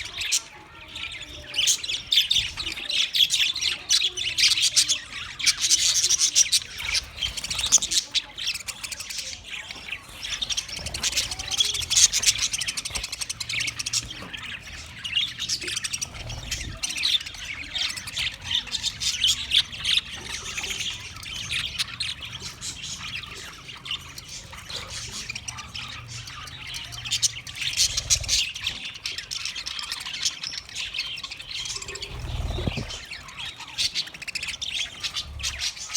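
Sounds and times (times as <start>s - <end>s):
budgie chirping and warbling: 0.0s - 35.9s.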